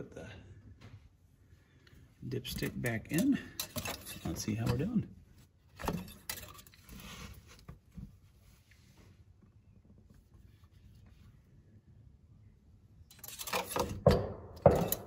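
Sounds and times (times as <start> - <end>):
faint background hum: 0.0 - 14.7.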